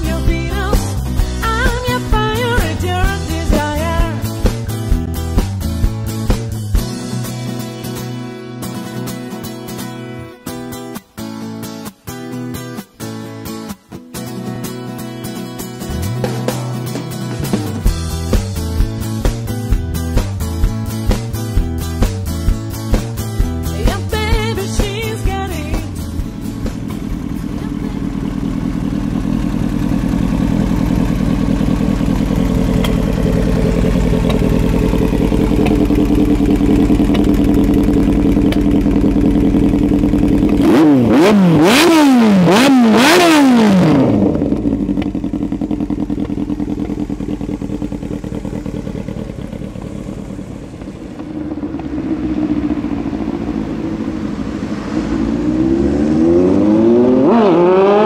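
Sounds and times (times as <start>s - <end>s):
motorcycle engine idling and revving: 0.0s - 11.1s, 13.8s - 58.0s.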